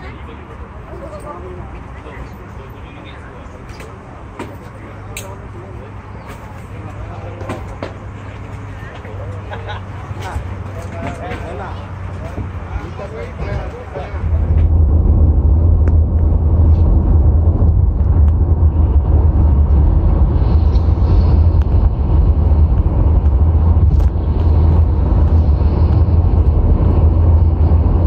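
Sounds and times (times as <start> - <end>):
vehicle rumble at highway speed: 0.0 - 28.0.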